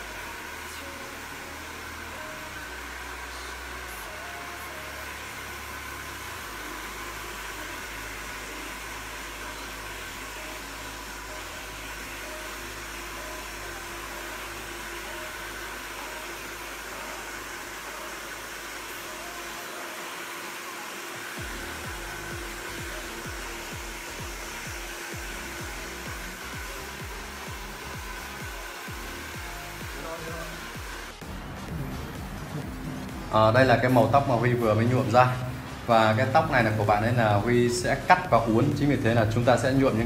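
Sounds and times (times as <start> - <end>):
hair dryer whining: 0.0 - 40.0.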